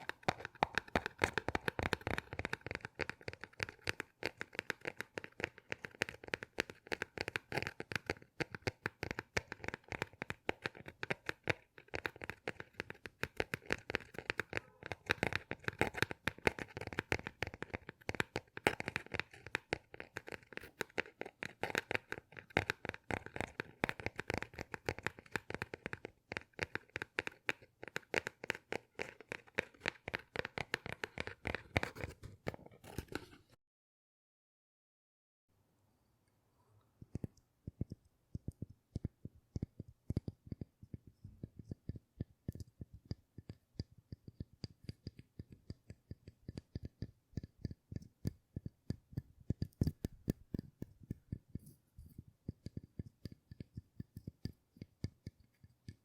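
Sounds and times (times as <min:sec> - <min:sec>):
crinkling handled in hands: 0:00.0 - 0:33.6, 0:36.7 - 0:56.0.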